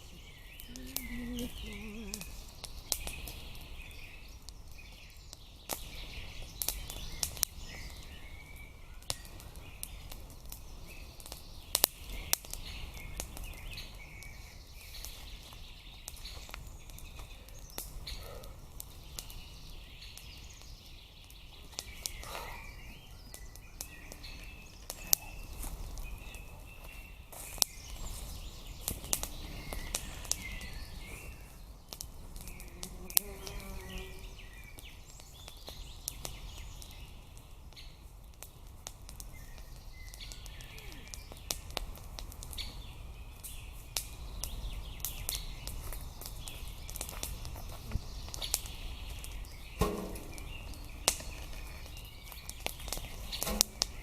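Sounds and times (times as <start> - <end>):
firewood cracking and snapping: 0.0 - 33.6, 34.3 - 54.0
small birds chirping: 0.0 - 54.0.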